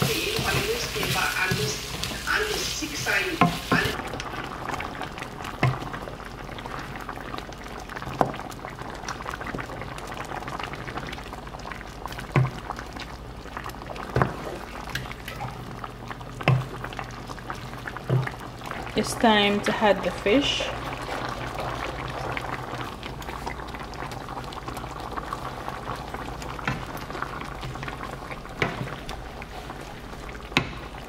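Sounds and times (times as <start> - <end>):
sauce bubbling in a pan: 0.0 - 31.0.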